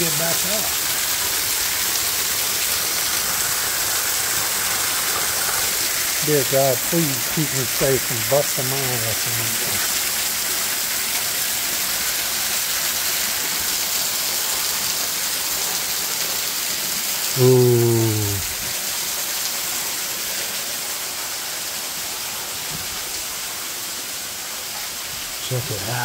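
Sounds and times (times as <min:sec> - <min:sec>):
waterfall splashing onto rocks: 0:00.0 - 0:26.0.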